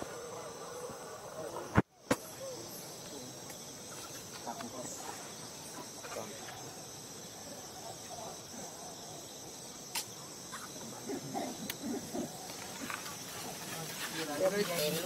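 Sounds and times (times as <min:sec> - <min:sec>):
high insect chorus: 0:00.0 - 0:15.0.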